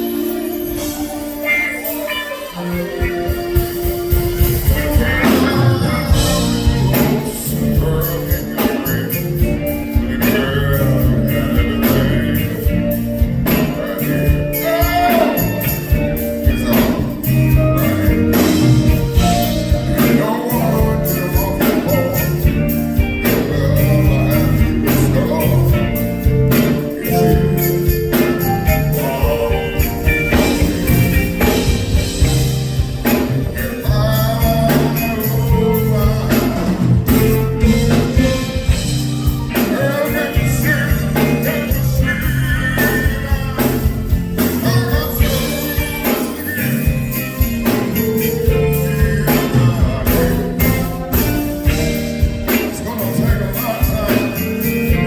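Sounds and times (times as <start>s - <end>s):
bass and drums beat: 0.0s - 55.0s
live soul band playing: 0.0s - 55.0s.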